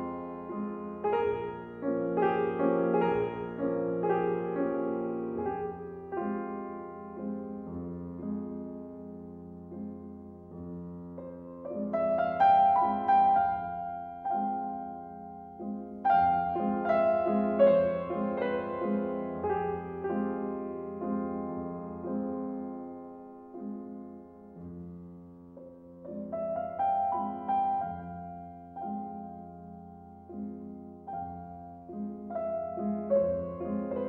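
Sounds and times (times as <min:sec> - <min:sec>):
slow solo piano piece: 0:00.0 - 0:34.0.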